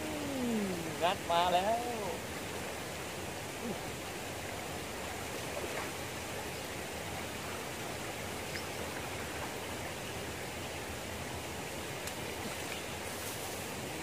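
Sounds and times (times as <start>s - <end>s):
water rushing over a weir: 0.0s - 14.0s.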